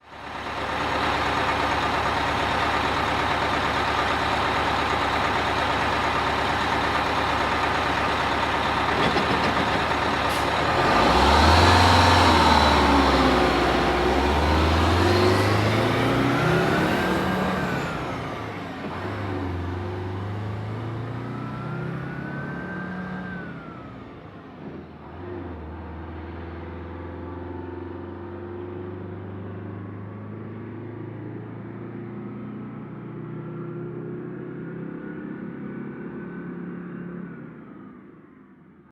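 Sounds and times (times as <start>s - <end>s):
bus engine pulling away: 0.0s - 38.9s.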